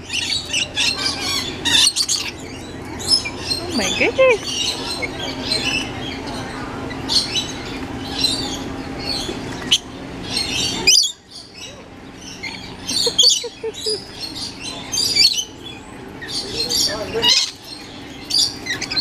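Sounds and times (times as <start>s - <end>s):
low background murmur: 0.0s - 19.0s
parrots screeching and chirping: 0.0s - 19.0s.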